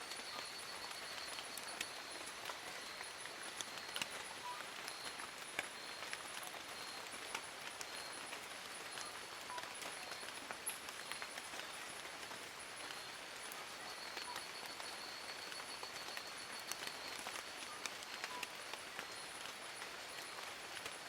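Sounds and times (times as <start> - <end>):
rain pattering on leaves: 0.0 - 21.0.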